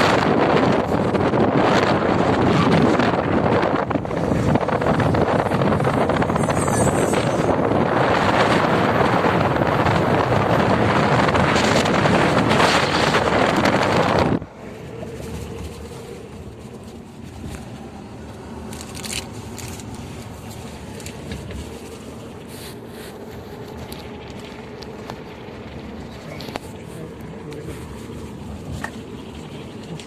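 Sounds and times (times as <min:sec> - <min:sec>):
gusty wind on microphone: 0:00.0 - 0:29.8.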